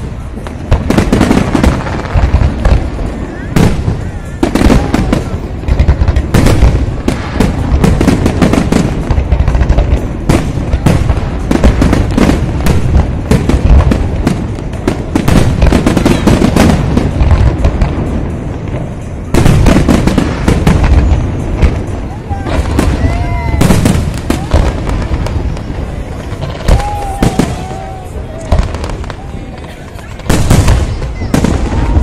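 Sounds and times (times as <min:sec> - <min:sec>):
fireworks bangs: 0:00.0 - 0:32.0.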